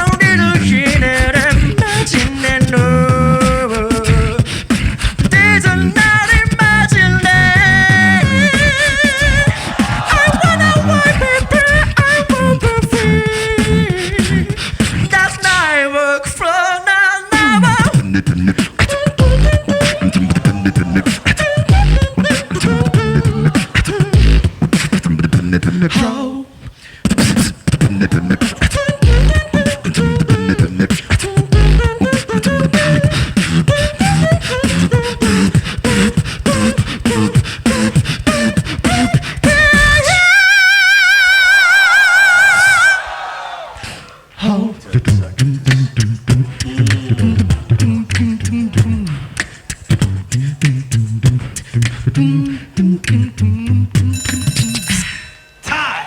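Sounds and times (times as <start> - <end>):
beatbox kick and snare: 0.0 - 15.2, 17.4 - 25.8, 27.0 - 40.2, 45.0 - 55.2
person singing: 0.0 - 43.0, 43.8 - 54.8.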